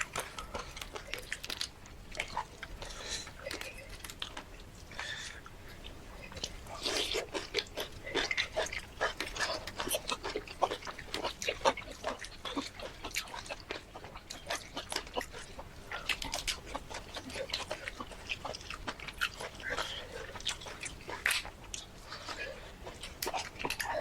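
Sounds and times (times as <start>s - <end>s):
people chewing food: 0.0s - 24.0s.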